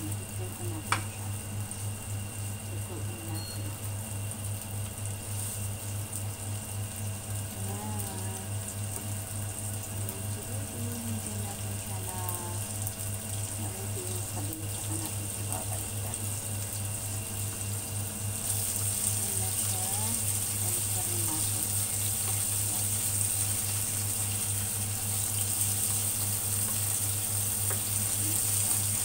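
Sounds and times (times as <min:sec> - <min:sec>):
shrimp sizzling in hot oil: 0:00.0 - 0:29.0
steady low hum: 0:00.0 - 0:29.0.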